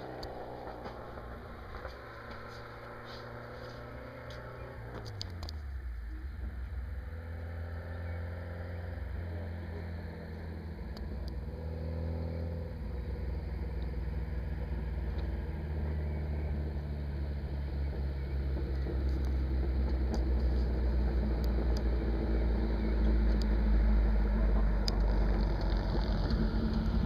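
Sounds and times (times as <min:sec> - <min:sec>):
car engine approaching: 0:00.0 - 0:27.0.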